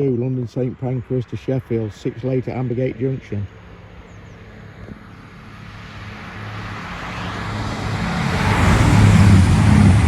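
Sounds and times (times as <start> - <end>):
diesel train engine hum: 0.0 - 10.0.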